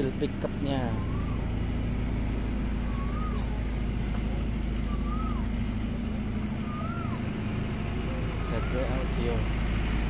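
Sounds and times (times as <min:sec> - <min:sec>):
engine idling drone: 0:00.0 - 0:10.0
short rising and falling call: 0:00.5 - 0:09.7.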